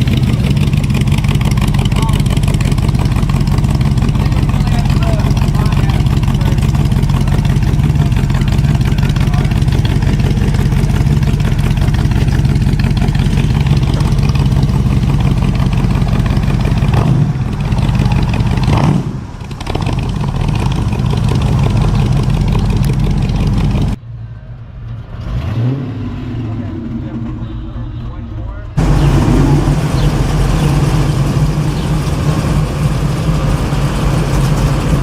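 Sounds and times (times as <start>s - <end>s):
car engine deep exhaust rumble: 0.0s - 24.0s, 24.6s - 35.0s.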